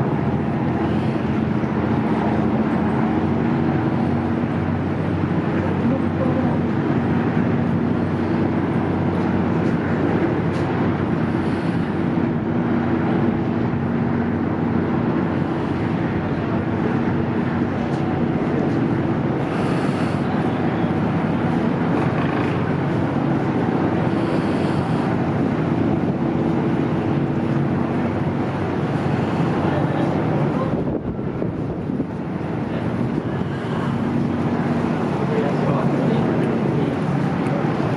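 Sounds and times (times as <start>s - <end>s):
ship engines humming: 0.0s - 37.9s
wind on microphone: 0.0s - 37.9s.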